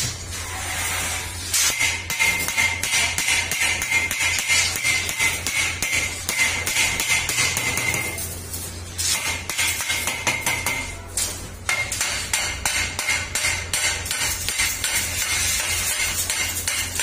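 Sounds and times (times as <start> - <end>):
hammer striking metal tube: 1.6 - 8.2, 9.0 - 17.0.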